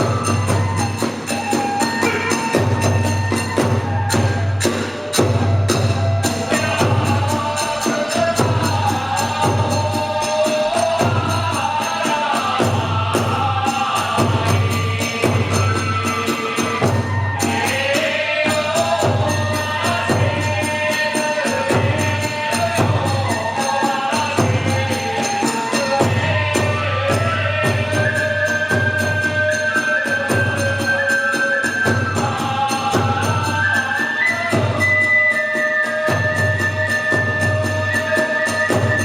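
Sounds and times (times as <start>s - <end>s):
hand cymbals clashing: 0.0s - 39.0s.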